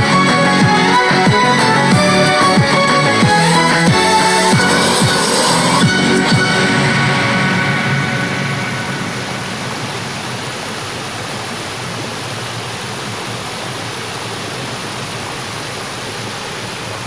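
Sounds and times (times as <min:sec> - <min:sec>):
stream water rushing: 0:00.2 - 0:17.0.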